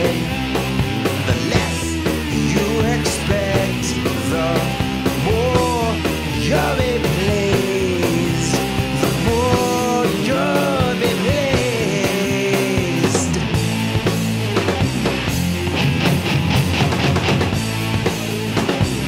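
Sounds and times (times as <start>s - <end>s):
rock music with sliding melody: 0.0s - 19.0s.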